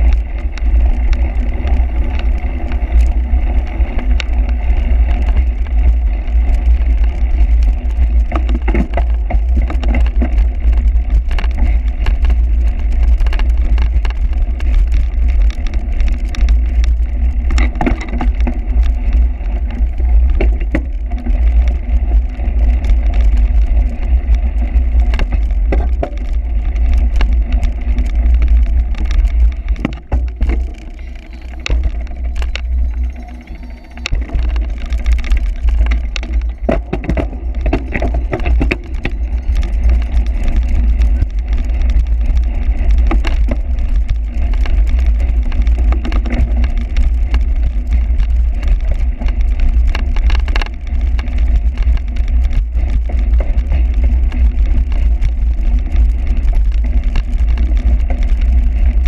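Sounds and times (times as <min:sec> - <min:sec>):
bike rattling and knocking: 0:00.0 - 0:59.0
wind rumble on microphone: 0:00.0 - 0:59.0.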